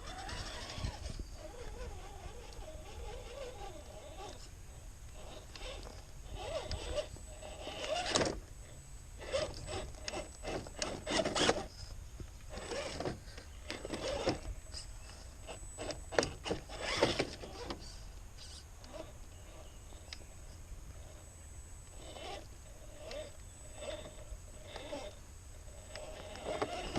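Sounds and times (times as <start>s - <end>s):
tyres scraping over rough ground: 0.0s - 4.5s, 5.1s - 8.5s, 9.2s - 20.0s, 21.9s - 26.9s.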